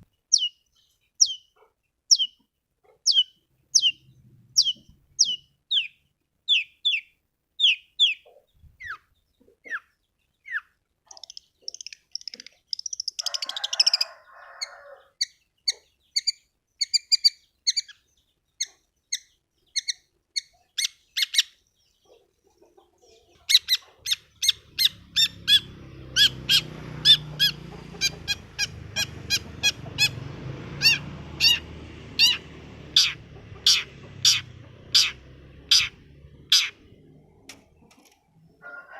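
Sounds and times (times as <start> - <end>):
harsh bird chatter: 3.0 - 14.0, 15.2 - 38.2.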